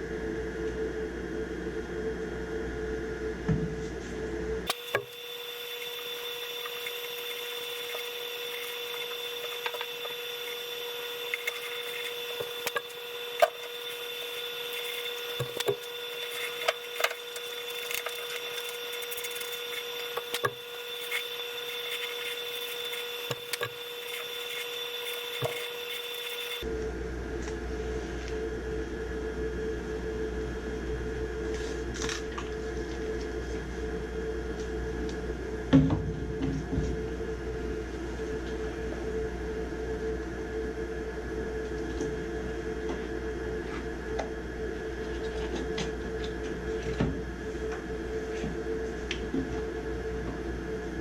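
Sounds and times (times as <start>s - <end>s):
steady high-pitched hum: 0.0s - 51.0s.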